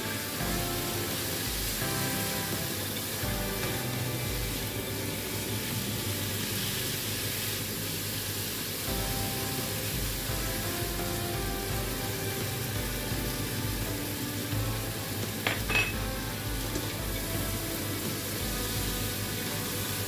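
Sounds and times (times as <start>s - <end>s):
background music with beat: 0.0s - 7.4s, 8.9s - 20.0s
food sizzling in a wok: 0.0s - 20.0s.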